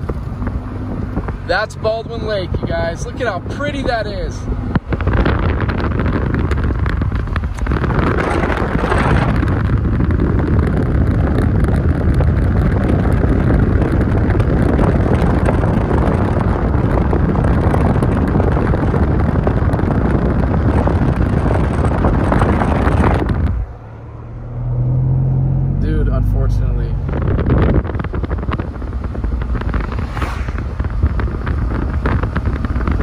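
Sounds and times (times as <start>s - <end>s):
car tyre and road noise: 0.0s - 33.0s
wind on microphone: 0.0s - 33.0s.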